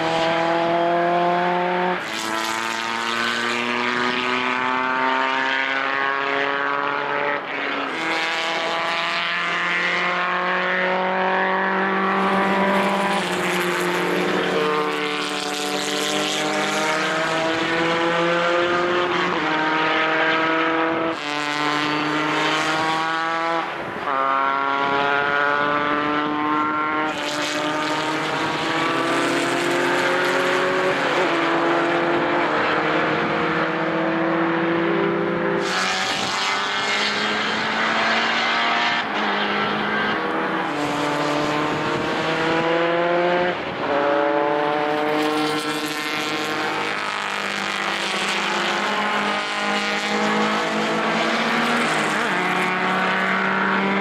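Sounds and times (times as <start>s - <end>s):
racing cars accelerating hard: 0.0s - 54.0s.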